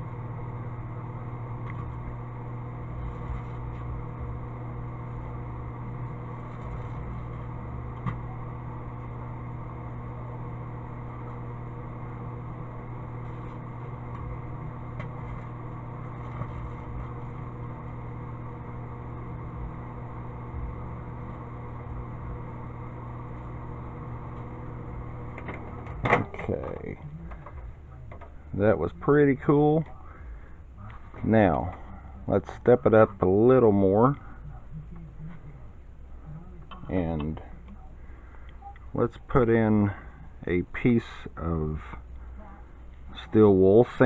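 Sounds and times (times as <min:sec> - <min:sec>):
microwave oven humming: 0:00.0 - 0:44.0.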